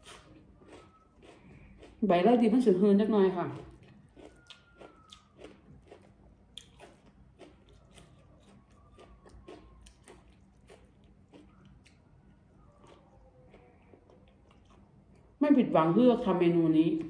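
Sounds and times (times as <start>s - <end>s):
person chewing food: 0.0s - 2.0s, 3.5s - 15.4s.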